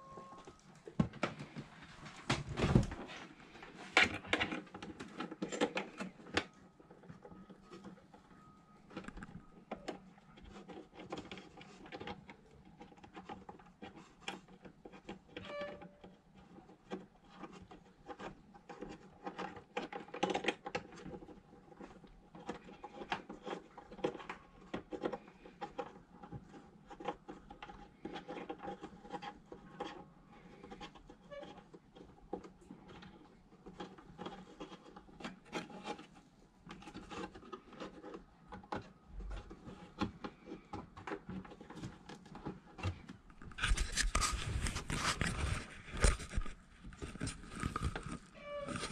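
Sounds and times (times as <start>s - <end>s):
small clicks rubs and scrapes: 3.1s - 48.9s.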